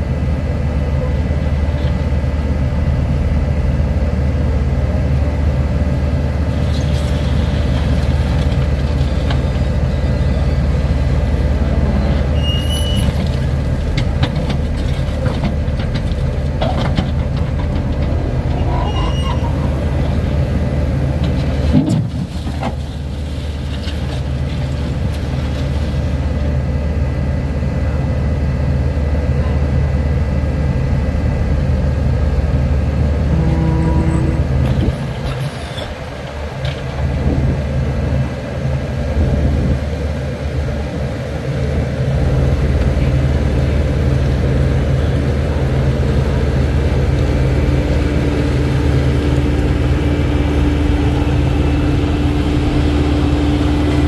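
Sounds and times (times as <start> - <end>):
heavy vehicle engine droning: 0.0 - 54.0.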